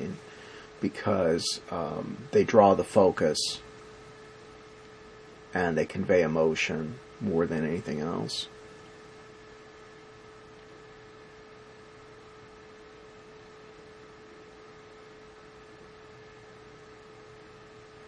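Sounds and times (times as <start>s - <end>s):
electrical hum: 0.0s - 18.0s
low hiss: 0.0s - 18.0s.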